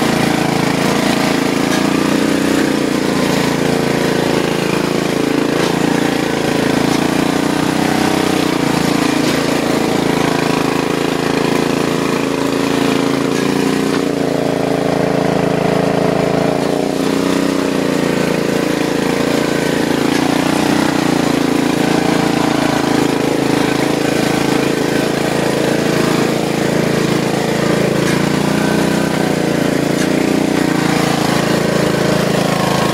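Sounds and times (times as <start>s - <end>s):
riding lawn mower engine: 0.0s - 32.9s.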